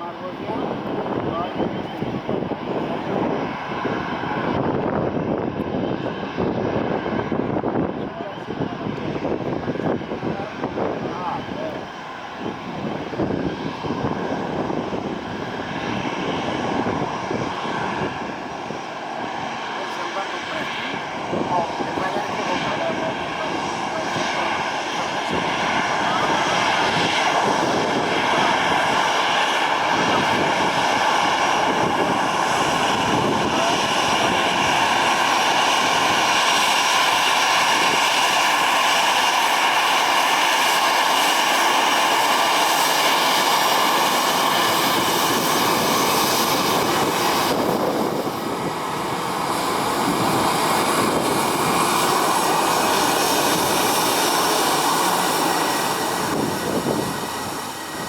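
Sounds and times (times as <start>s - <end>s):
jet engines roaring and whining: 0.0s - 58.0s.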